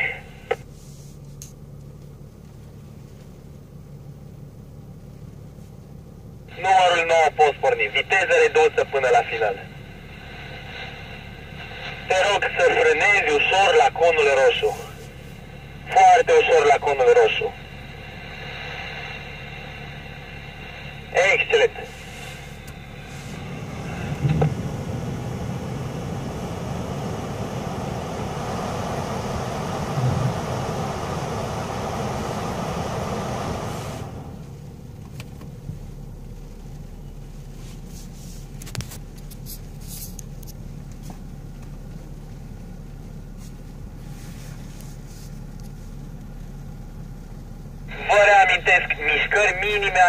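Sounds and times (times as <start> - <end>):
car cabin rumble and hiss: 0.0 - 50.0
low hum: 0.0 - 50.0.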